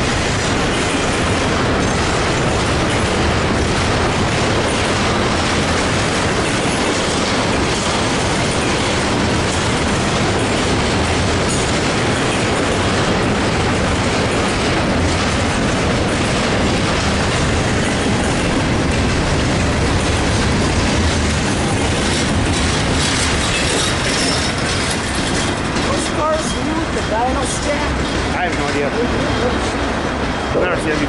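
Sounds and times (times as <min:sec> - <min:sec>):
freight train wheels clattering: 0:00.0 - 0:31.0.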